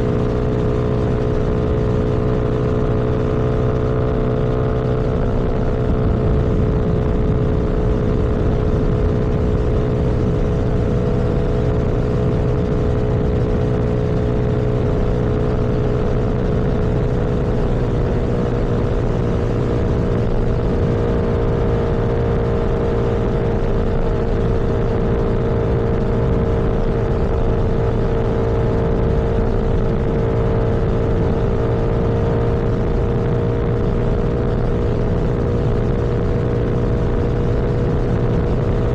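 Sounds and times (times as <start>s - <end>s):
road rumble: 0.0s - 38.9s
vehicle engine running: 0.0s - 38.9s
wind noise: 0.0s - 38.9s.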